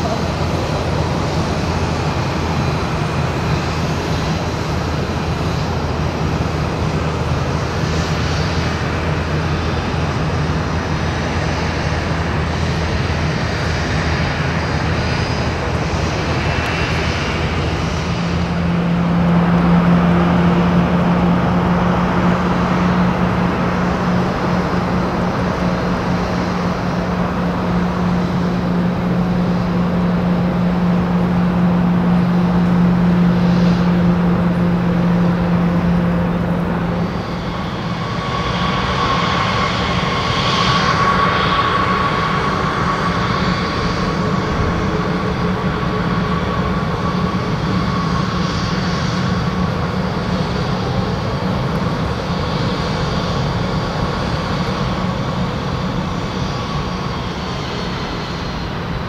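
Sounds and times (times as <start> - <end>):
jet engines taxiing: 0.0 - 59.0
loud steady low hum: 0.0 - 59.0.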